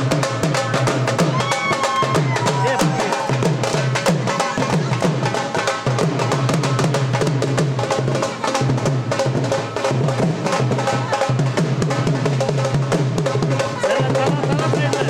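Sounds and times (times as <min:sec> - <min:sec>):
upbeat music with drums and bass: 0:00.0 - 0:15.0.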